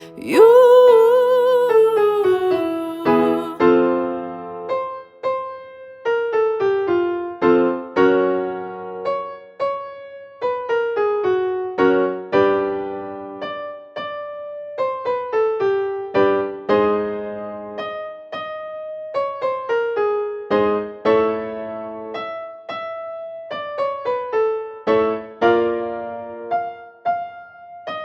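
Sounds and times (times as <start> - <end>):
piano notes and chords: 0.0 - 28.0.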